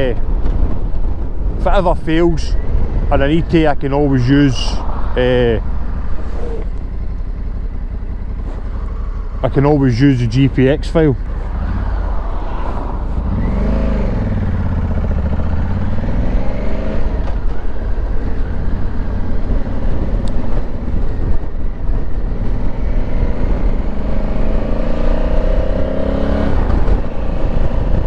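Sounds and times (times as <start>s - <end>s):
wind rumble: 0.0s - 25.8s
motorcycle engine: 0.0s - 27.8s.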